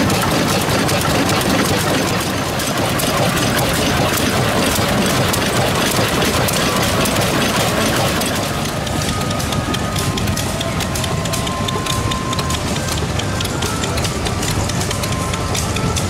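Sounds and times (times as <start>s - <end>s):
stationary engines clattering: 0.0s - 16.0s.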